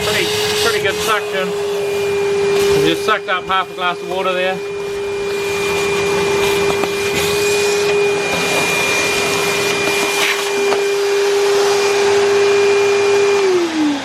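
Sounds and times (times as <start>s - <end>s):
shop vacuum motor whine: 0.0s - 14.0s.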